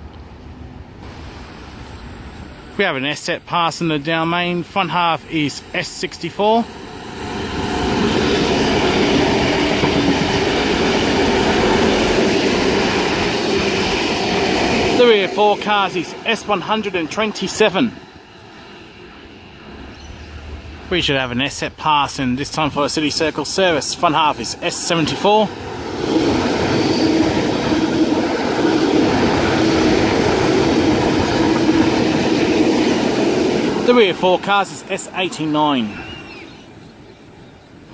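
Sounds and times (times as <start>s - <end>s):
train wheels rumbling on rails: 0.2s - 37.8s.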